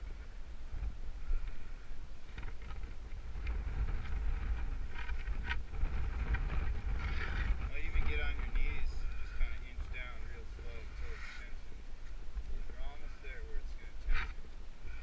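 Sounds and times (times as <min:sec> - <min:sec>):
faint rustles: 0:00.0 - 0:15.0
wind buffeting microphone: 0:00.0 - 0:15.0.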